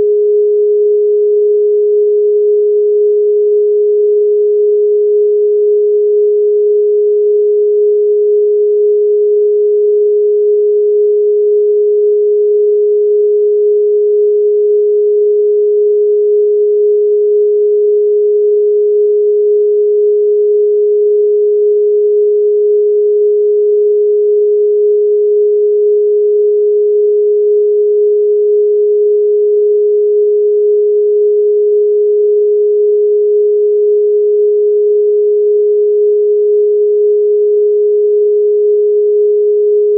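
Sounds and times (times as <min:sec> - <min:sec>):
steady sine-wave tone: 0:00.0 - 0:39.9.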